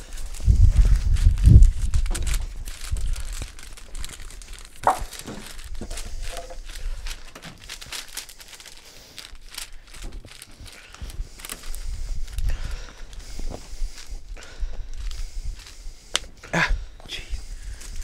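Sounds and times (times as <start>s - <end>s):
paper crinkling: 0.0s - 16.4s, 17.5s - 18.0s.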